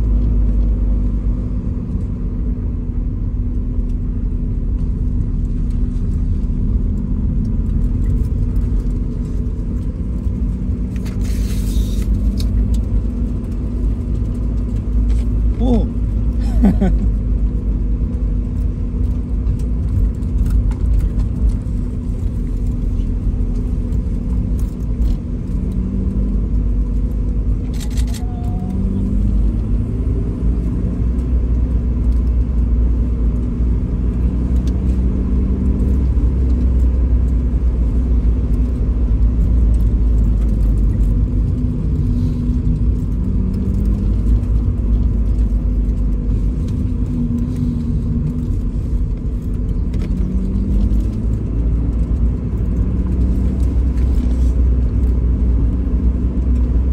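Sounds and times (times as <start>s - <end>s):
car engine and tyres rumbling: 0.0s - 56.9s.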